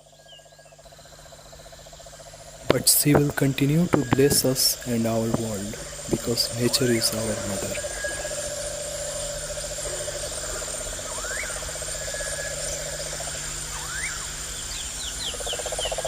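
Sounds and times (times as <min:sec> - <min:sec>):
steady high buzzing: 0:00.8 - 0:16.0.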